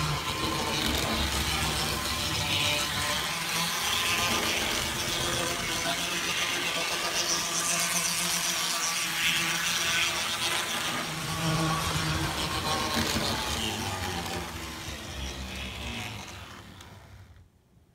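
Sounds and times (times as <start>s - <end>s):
model train motor whirring: 0.0s - 17.5s.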